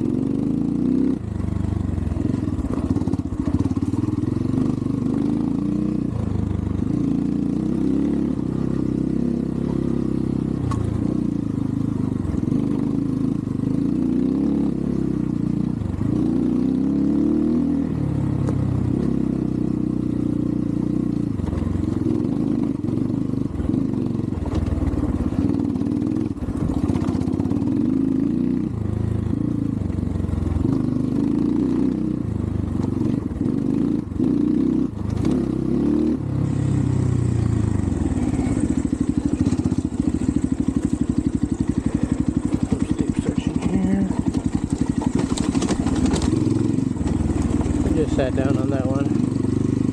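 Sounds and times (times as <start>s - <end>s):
dirt bike engine revving: 0.0s - 11.6s, 12.3s - 18.2s, 18.8s - 32.3s, 32.9s - 49.9s.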